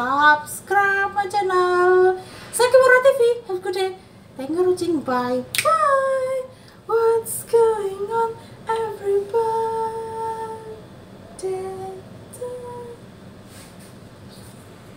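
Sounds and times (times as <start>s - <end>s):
woman singing wordless tune: 0.0s - 13.1s.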